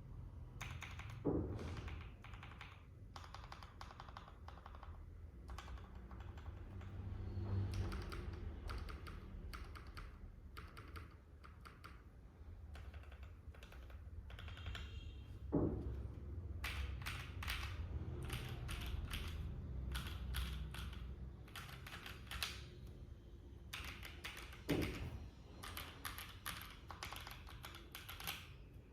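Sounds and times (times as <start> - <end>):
mechanical keyboard typing: 0.4 - 15.1, 16.6 - 23.0, 23.6 - 28.9.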